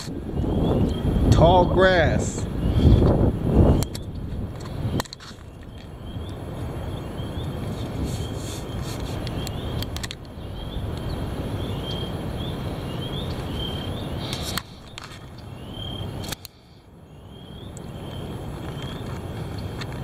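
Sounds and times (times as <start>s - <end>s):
wind gusting over microphone: 0.0s - 20.0s.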